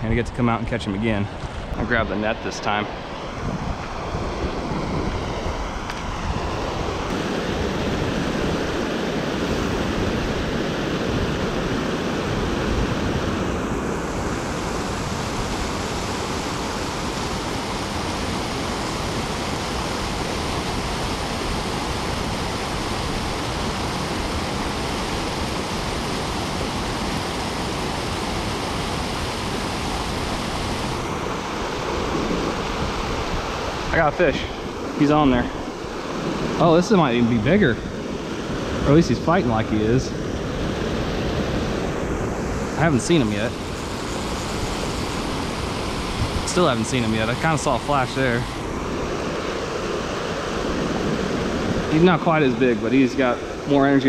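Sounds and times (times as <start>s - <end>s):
water rushing over weir: 0.0s - 54.0s
wind buffeting microphone: 0.0s - 54.0s.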